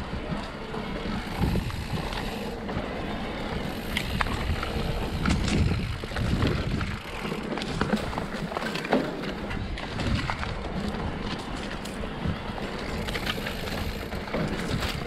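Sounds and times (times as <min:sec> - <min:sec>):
bike rattling: 0:00.0 - 0:15.0
bike tyres rumbling over dirt: 0:00.0 - 0:15.0.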